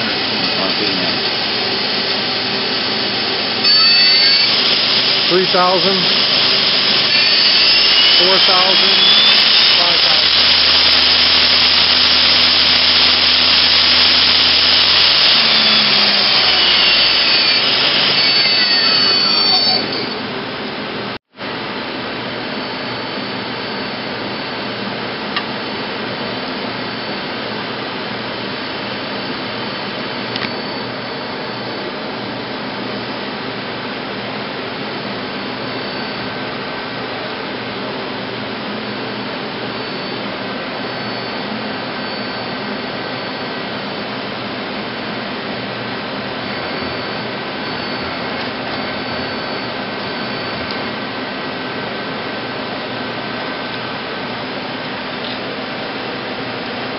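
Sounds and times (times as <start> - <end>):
lathe mechanical whir: 0.0 - 56.9.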